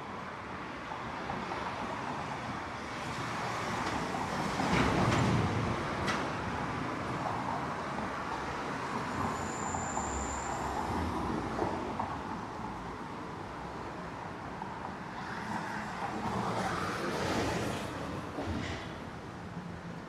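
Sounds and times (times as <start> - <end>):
cars and buses passing: 0.0 - 20.0.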